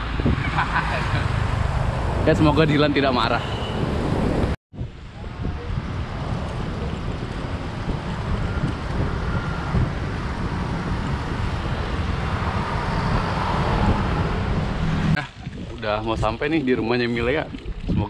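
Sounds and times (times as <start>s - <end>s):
street traffic: 0.0s - 15.2s
wind buffeting microphone: 0.0s - 18.0s.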